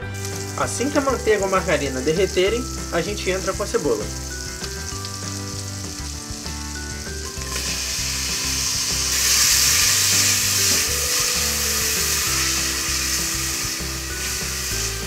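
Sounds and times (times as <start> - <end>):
onion sizzling in fat: 0.0 - 15.0.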